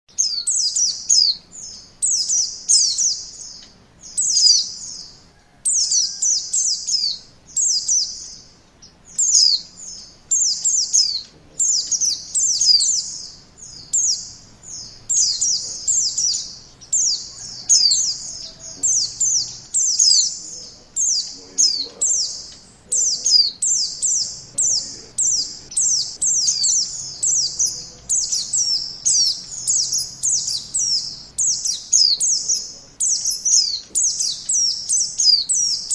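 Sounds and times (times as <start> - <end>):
bird twittering song: 0.1 - 35.9.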